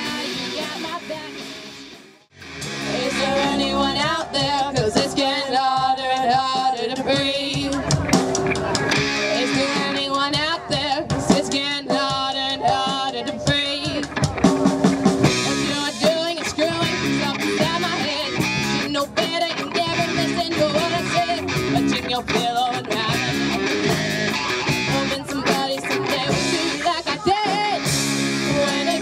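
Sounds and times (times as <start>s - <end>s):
bass guitar: 0.0s - 29.0s
distorted electric guitars: 0.0s - 29.0s
drum kit: 0.0s - 29.0s.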